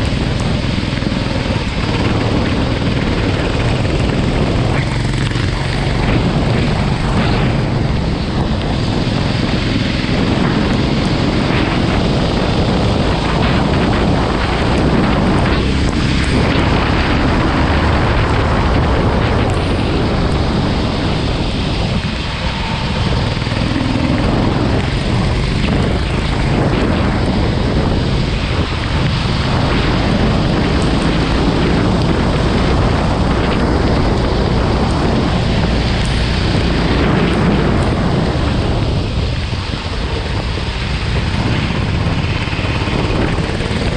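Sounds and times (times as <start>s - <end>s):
go-kart engine running: 0.0s - 43.9s
wind noise on microphone: 0.0s - 43.9s.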